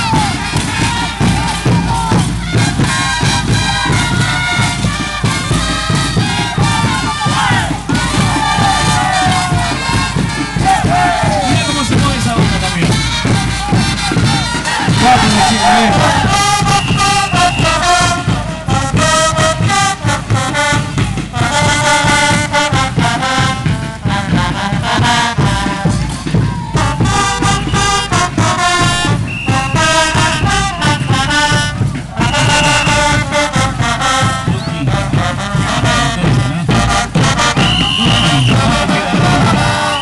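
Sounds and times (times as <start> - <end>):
brass band playing: 0.0 - 40.0.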